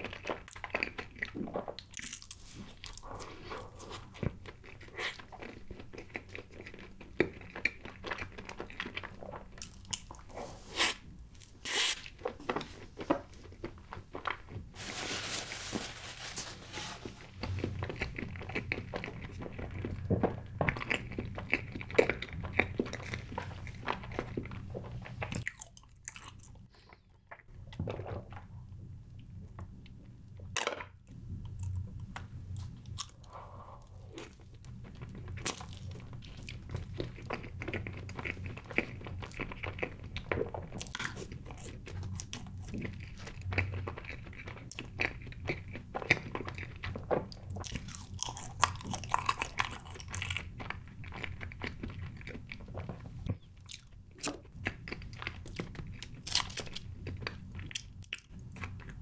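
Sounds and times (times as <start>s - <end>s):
cake being chewed: 0.0s - 14.8s, 17.2s - 28.5s, 31.4s - 59.0s.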